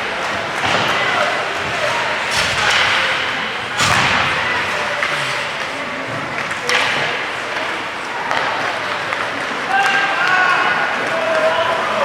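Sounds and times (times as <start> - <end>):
crowd noise: 0.0 - 12.0
sharp bangs on rink boards: 0.3 - 10.3.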